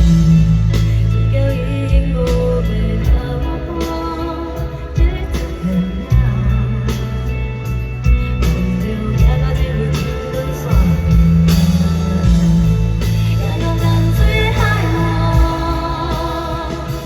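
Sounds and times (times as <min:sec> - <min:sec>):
live pop concert music: 0:00.0 - 0:17.0.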